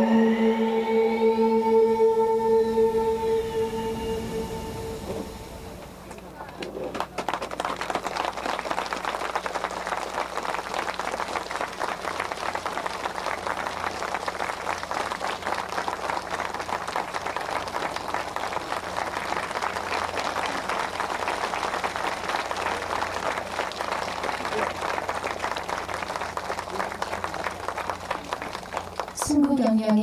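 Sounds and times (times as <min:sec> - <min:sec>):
audience applauding: 0:03.9 - 0:30.0.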